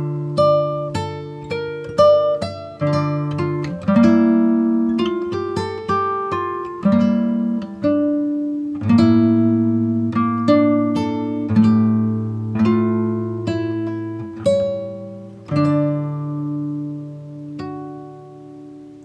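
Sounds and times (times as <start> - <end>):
guitar playing plucked notes: 0.0 - 19.0.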